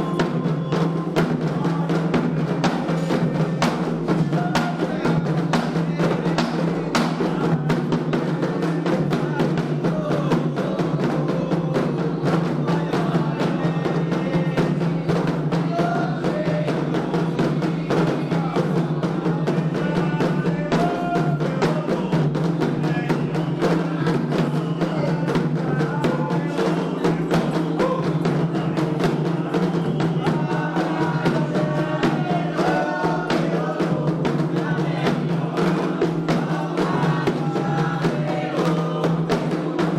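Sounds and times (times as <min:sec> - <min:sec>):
fast hand drumming: 0:00.0 - 0:39.9
voices singing: 0:00.0 - 0:39.9.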